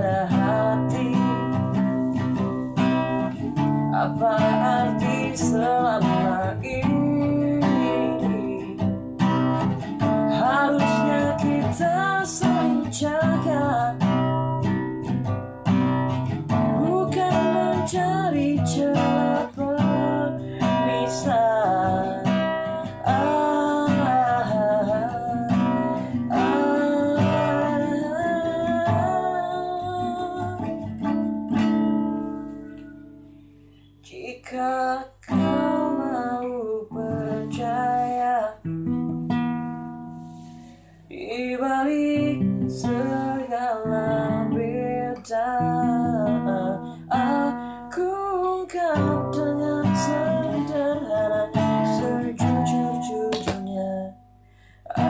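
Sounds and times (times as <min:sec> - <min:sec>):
man singing: 0:00.0 - 0:14.3, 0:16.5 - 0:30.8, 0:34.0 - 0:38.7, 0:41.1 - 0:54.2
classical guitar strumming: 0:00.0 - 0:55.0.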